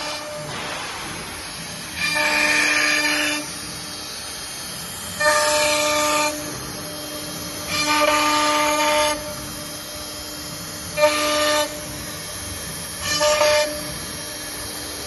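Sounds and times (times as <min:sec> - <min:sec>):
router spindle whining: 0:02.6 - 0:15.0.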